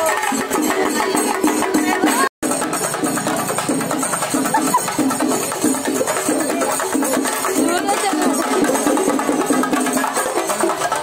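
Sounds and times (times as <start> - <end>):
loud music with percussion beat: 0.0 - 11.0.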